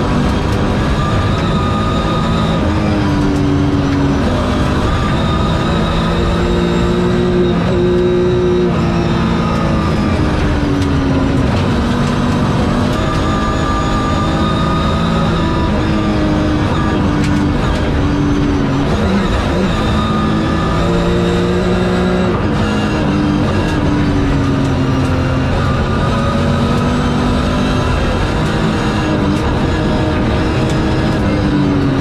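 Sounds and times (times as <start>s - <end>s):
rally car engine at full load: 0.0s - 32.0s.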